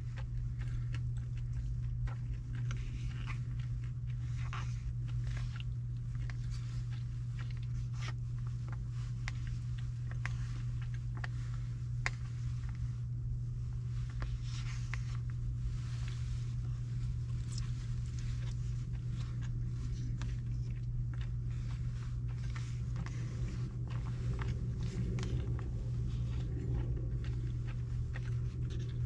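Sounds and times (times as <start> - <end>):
chewing: 0.0 - 29.0
steady low hum: 0.0 - 29.0.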